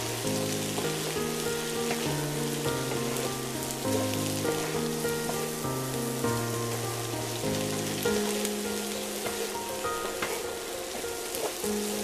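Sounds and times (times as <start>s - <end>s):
background music of held notes: 0.0s - 12.0s
vegetables sizzling in frying pan: 0.0s - 12.0s.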